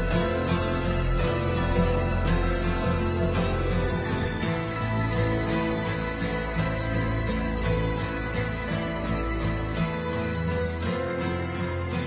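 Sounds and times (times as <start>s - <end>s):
instrumental music with light beat: 0.0s - 12.0s.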